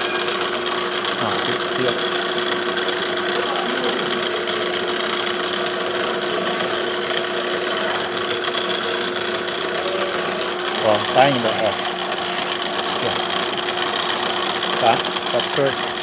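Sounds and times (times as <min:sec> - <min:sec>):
pillar drill running: 0:00.0 - 0:16.0.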